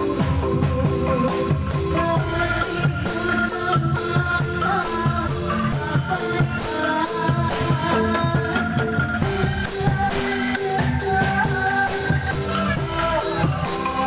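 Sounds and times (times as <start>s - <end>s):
bamboo angklung notes: 0.0s - 14.0s
drum kit with cymbals: 0.0s - 14.0s
hand drums: 0.0s - 14.0s.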